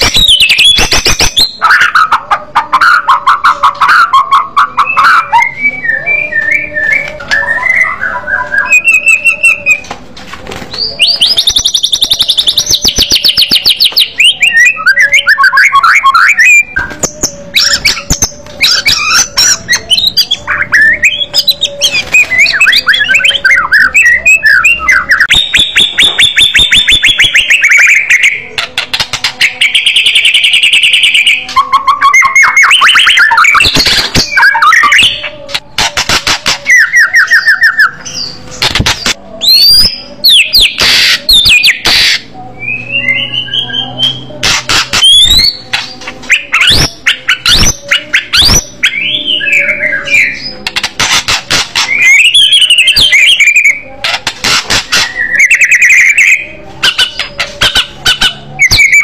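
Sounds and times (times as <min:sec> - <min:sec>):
bird singing trills and whistles: 0:00.0 - 0:09.9, 0:10.7 - 0:59.0.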